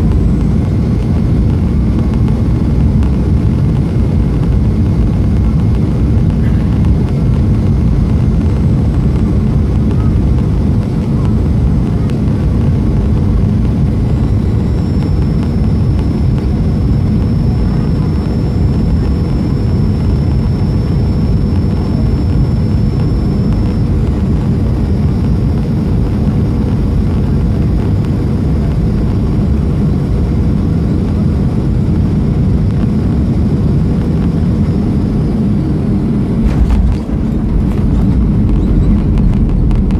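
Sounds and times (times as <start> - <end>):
aircraft cabin engine noise: 0.0 - 39.9
faint high thin whine: 0.0 - 39.9.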